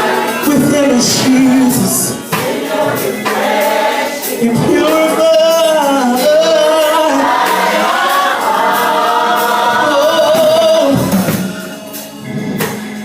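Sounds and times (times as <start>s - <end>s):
gospel choir singing: 0.0s - 13.0s.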